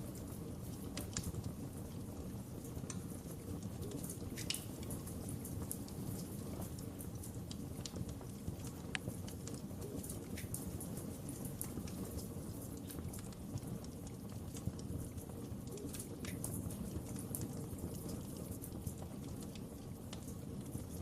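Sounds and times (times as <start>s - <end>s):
burning wood crackling and popping: 0.0s - 21.0s
low rush of flames: 0.0s - 21.0s.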